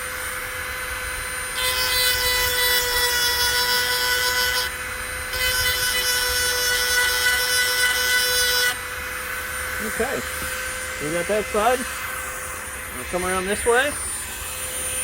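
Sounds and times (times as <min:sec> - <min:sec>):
power grinder whining: 0:00.0 - 0:15.0
metal grinding on metal: 0:01.6 - 0:15.0.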